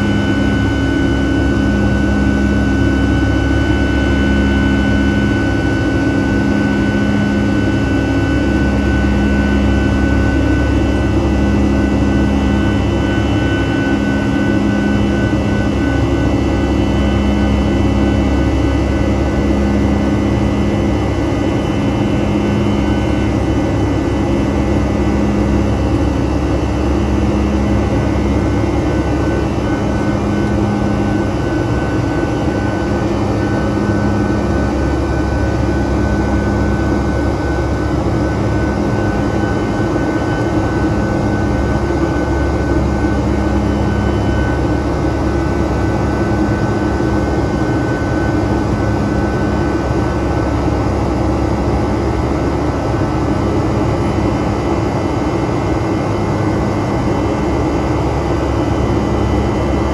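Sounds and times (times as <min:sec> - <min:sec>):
jet engine roar in cabin: 0:00.0 - 0:59.9
low pulsing hum: 0:00.0 - 0:59.9
steady engine whine: 0:00.0 - 0:59.9.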